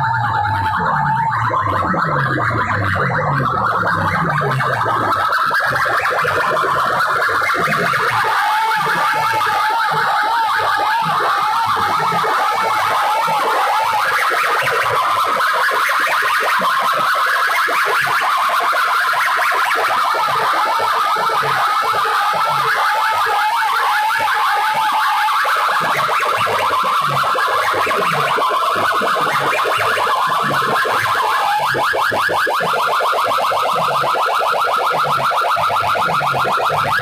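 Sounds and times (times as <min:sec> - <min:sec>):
shrill wavering tones: 0:00.0 - 0:15.7, 0:19.4 - 0:34.4
distorted electronic blare: 0:00.0 - 0:24.8, 0:25.5 - 0:37.0.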